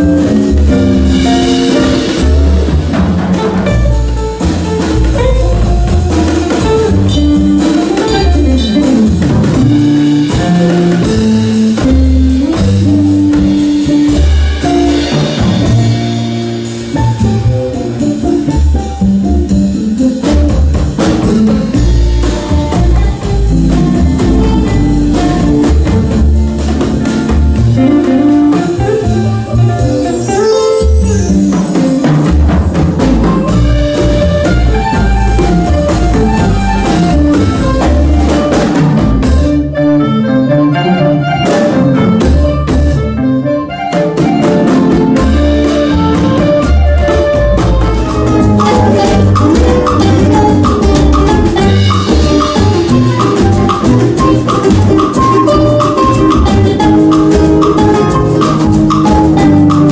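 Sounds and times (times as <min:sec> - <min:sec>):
drum kit: 0:00.0 - 0:59.9
electric guitar: 0:00.0 - 0:59.9
jazz band playing: 0:00.0 - 0:59.9
upright double bass: 0:00.0 - 0:59.9.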